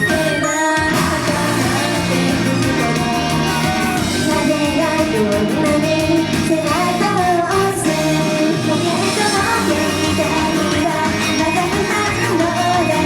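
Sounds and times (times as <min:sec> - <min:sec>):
pop singing over backing track: 0:00.0 - 0:13.0.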